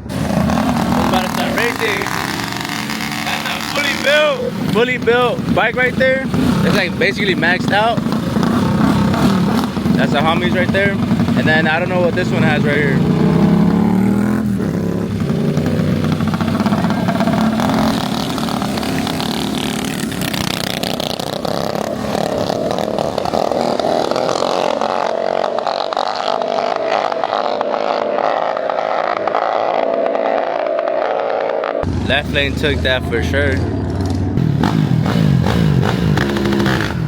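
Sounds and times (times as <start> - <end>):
engine clatter: 0.0 - 27.8, 31.8 - 37.0
mini bike engines revving: 0.0 - 30.1, 31.8 - 37.0.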